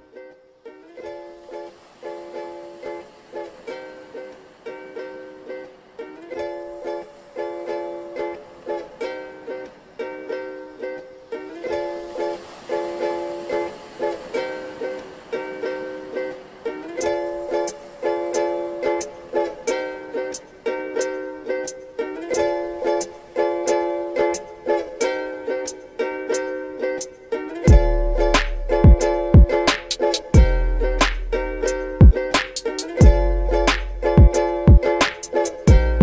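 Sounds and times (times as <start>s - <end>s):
plucked string chords: 0.0s - 36.0s.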